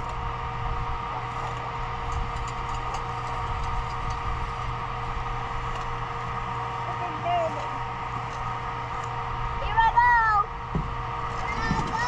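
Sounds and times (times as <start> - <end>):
steady engine-like drone: 0.0 - 12.0.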